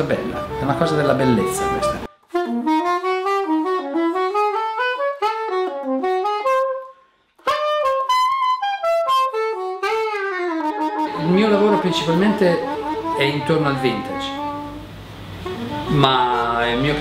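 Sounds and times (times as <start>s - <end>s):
solo saxophone: 0.0s - 17.0s.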